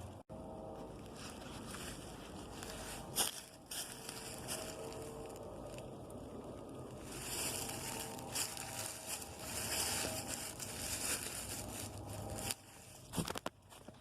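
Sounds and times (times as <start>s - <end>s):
footsteps crunching dry leaves: 0.6s - 14.0s.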